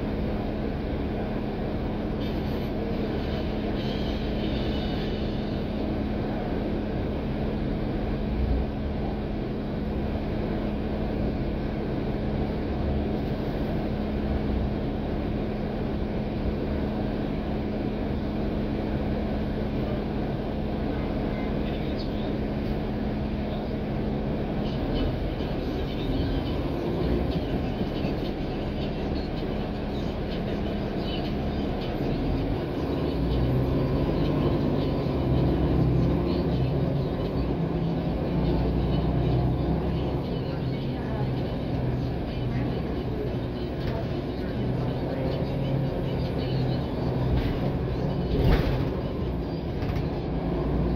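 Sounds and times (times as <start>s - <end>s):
bus engine and running noise: 0.0s - 50.9s.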